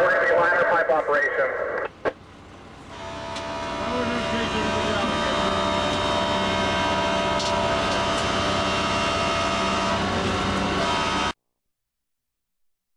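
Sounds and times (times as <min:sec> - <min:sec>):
fire engine humming from cab: 0:00.0 - 0:11.4.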